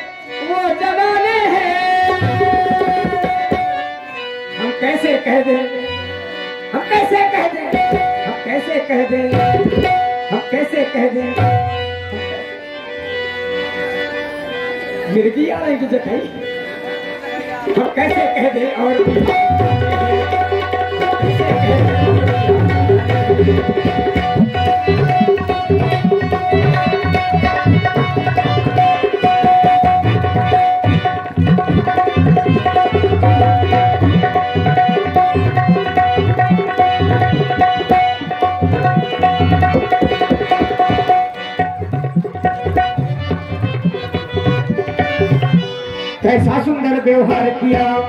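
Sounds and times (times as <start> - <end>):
tabla playing brisk rhythm: 0.0 - 48.0.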